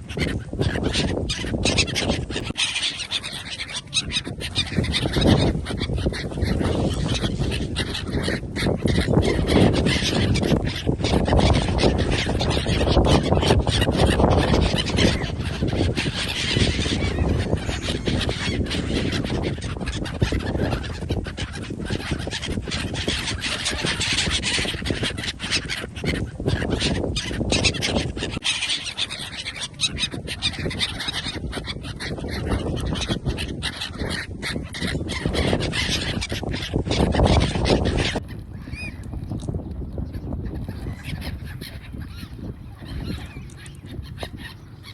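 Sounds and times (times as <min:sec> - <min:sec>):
geese honking: 0:00.0 - 0:44.9.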